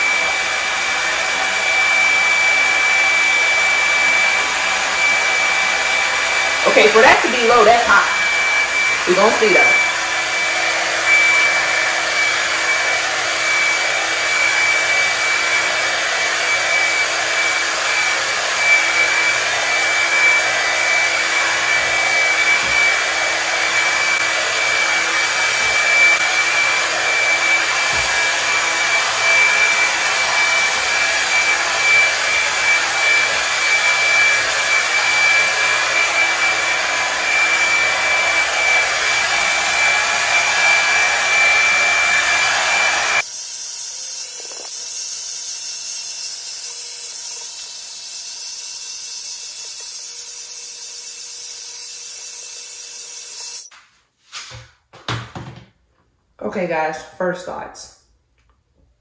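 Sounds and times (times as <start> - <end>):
hair dryer blowing hiss: 0.0 - 53.7.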